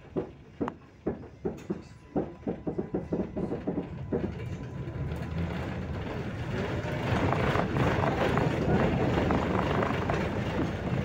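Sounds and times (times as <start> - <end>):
tram rolling rumble: 0.0 - 11.0
tram wheels clacking over rails: 0.0 - 11.0.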